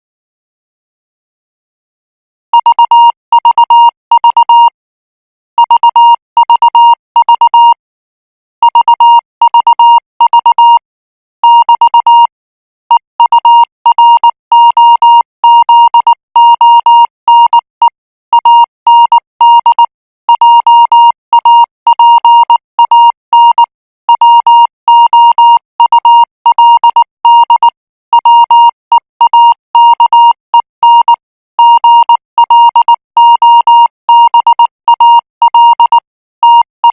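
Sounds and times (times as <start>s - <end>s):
morse code beeps: 2.6s - 4.8s, 5.6s - 7.8s, 8.6s - 10.8s, 11.4s - 12.3s, 12.9s - 36.9s.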